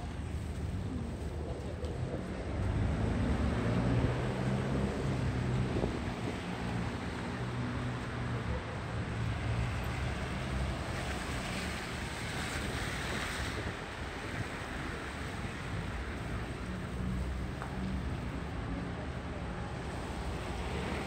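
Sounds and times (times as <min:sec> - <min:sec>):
low hum of traffic: 0:00.0 - 0:21.0.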